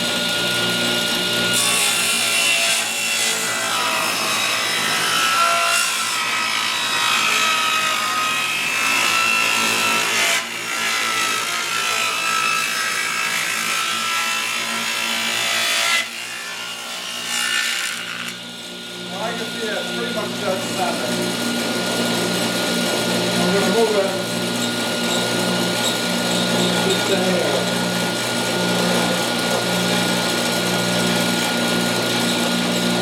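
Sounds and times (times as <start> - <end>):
table saw cutting wood: 0.0 - 33.0
table saw running: 0.0 - 33.0.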